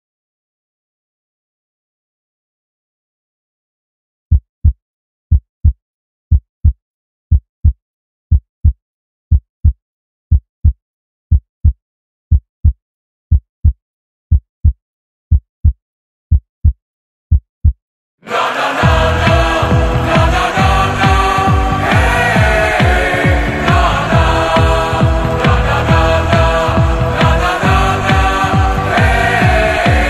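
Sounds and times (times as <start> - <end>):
heartbeat thumps: 4.3 - 17.8, 18.8 - 30.0.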